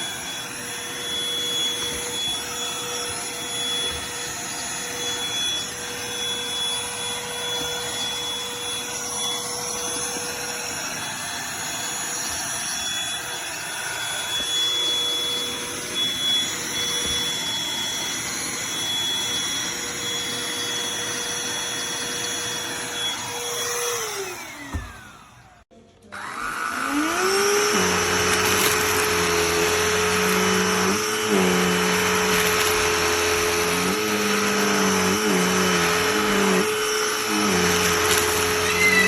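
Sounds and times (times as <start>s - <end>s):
handheld vacuum motor running: 0.0s - 39.0s.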